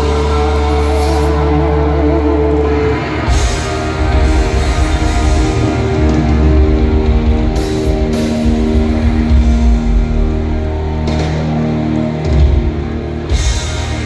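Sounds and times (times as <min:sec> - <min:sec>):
bass and drums: 0:00.0 - 0:14.0
distorted electric guitars: 0:00.0 - 0:14.0.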